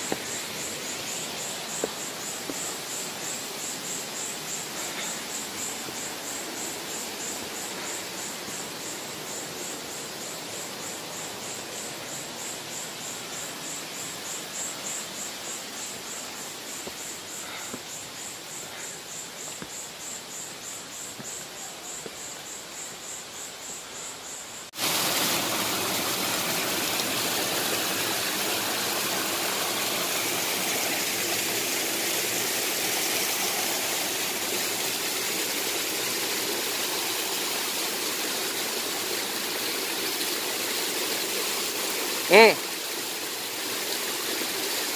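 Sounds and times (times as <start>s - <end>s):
water running over rocks: 0.0s - 23.0s, 24.7s - 44.9s
insect chirping: 0.0s - 44.9s.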